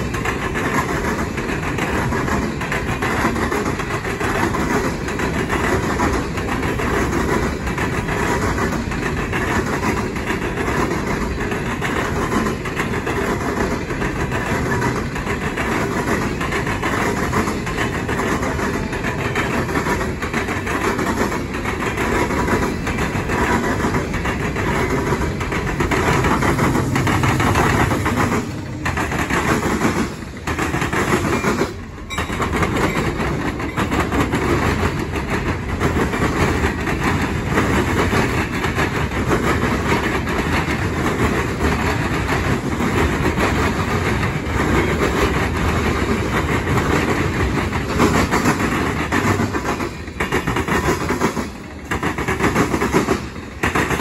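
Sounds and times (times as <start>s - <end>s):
diesel locomotive passing: 0.0s - 54.0s
train wheels clattering over rail joints: 0.0s - 54.0s.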